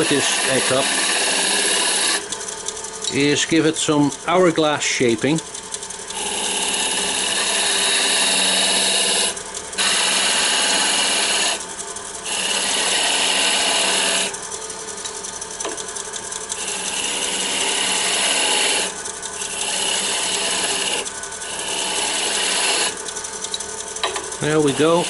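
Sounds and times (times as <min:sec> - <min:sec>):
lathe tool scraping wood: 0:00.0 - 0:25.0
wood lathe humming: 0:00.0 - 0:25.0.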